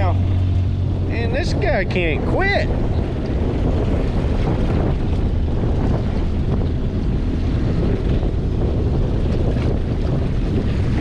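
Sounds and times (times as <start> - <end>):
low rumble of sea and boat: 0.0 - 11.0
wind buffeting microphone: 0.0 - 11.0.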